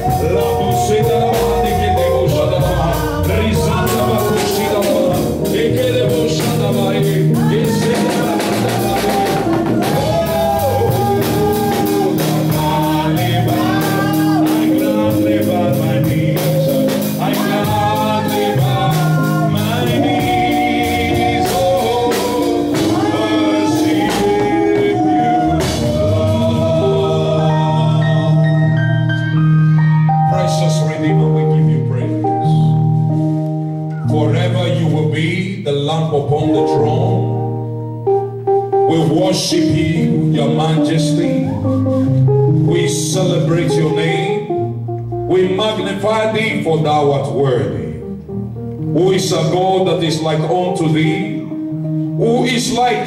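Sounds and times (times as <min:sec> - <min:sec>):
gospel singing over a beat: 0:00.0 - 0:47.9, 0:48.8 - 0:53.0.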